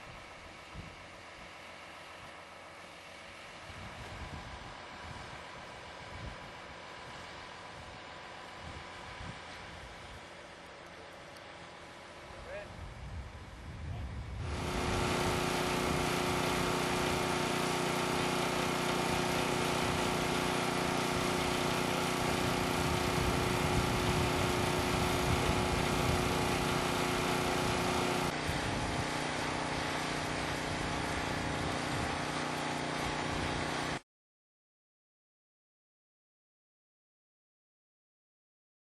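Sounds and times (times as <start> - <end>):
engine running with steady hum: 0.0 - 34.0.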